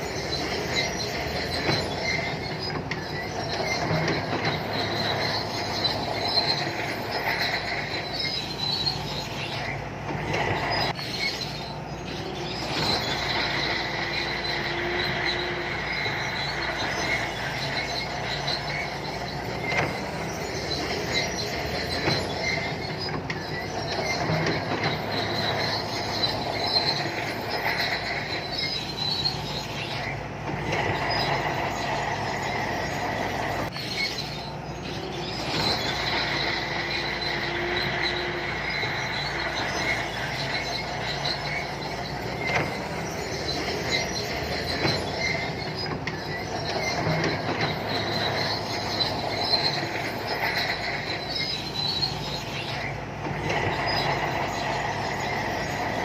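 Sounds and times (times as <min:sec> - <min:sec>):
diesel engine drone: 0:00.0 - 0:56.0
steel tracks squealing and clanking: 0:00.0 - 0:56.0.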